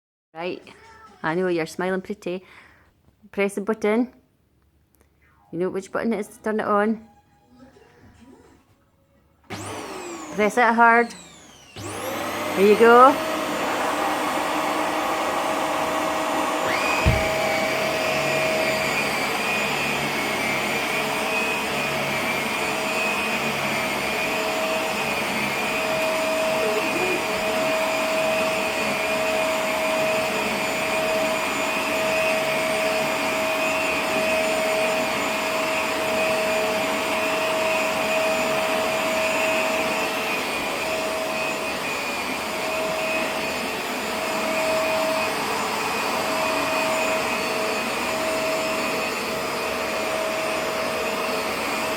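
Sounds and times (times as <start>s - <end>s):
vacuum cleaner running: 9.5s - 51.9s.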